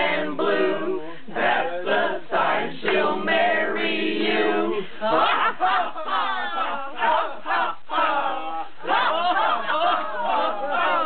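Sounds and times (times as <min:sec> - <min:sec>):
group singing a children's song: 0:00.0 - 0:11.0.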